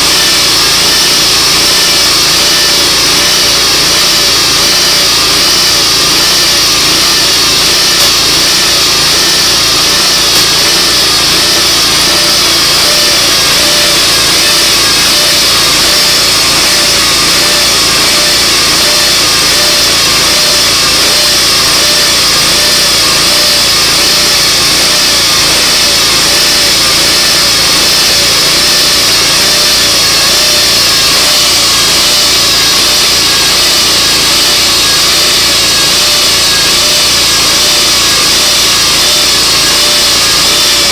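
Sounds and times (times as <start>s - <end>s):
sawmill sawing log: 0.0s - 40.9s.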